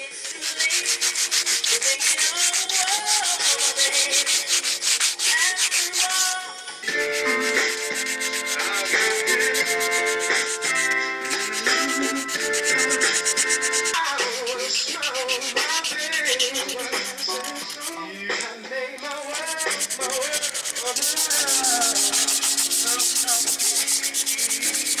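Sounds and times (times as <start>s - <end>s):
abrasive pad scuffing paint: 0.2s - 18.0s, 19.1s - 25.0s.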